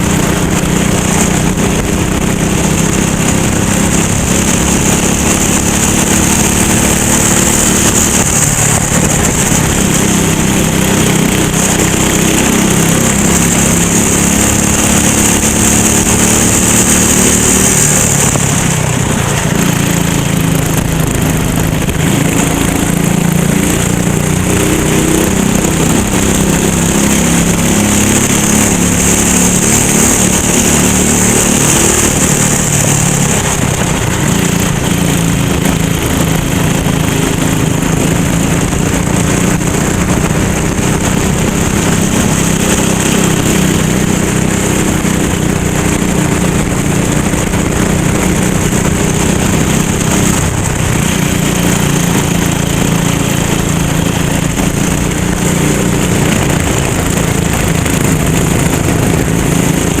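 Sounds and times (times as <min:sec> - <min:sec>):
go-kart engine running: 0:00.0 - 1:00.0.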